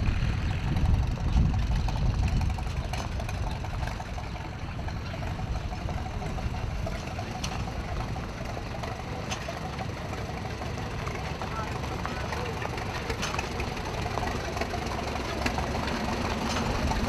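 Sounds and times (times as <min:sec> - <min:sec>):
tractor engines idling: 0:00.0 - 0:17.0.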